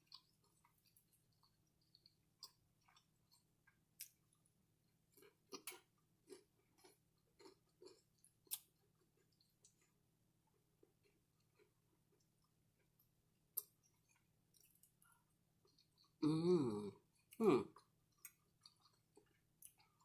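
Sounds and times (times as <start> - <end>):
person chewing: 0.0 - 4.5, 5.1 - 10.0, 10.8 - 20.0.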